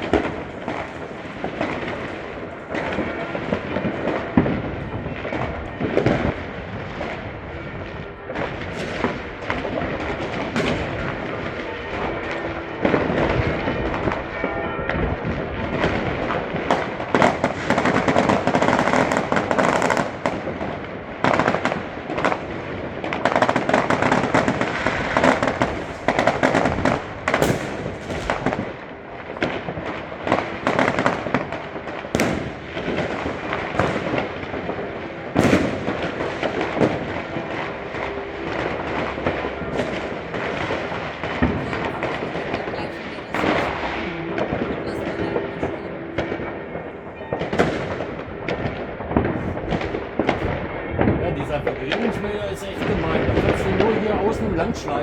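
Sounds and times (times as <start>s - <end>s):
firecrackers crackling: 0.0s - 55.0s
fireworks banging: 0.0s - 55.0s.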